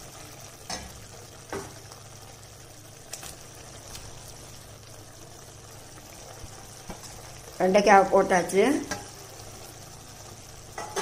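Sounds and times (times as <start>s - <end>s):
gravy sizzling in a pan: 0.0s - 11.0s.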